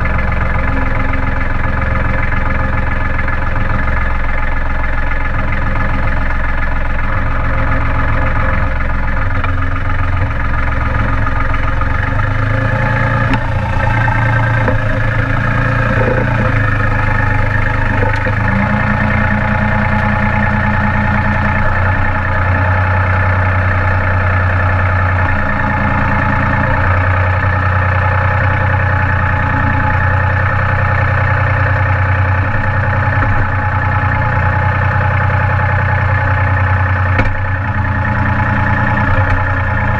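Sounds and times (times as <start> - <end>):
steady hum: 0.0 - 39.9
tractor diesel engine running: 0.0 - 39.9.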